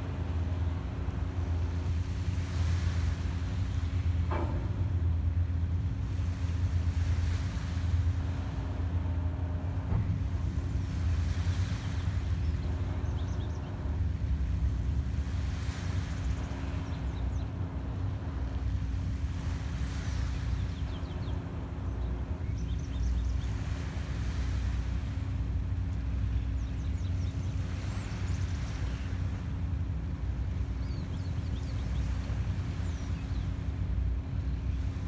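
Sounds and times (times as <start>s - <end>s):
small waves washing on shore: 0.0s - 35.0s
tugboat engine droning: 0.0s - 35.0s.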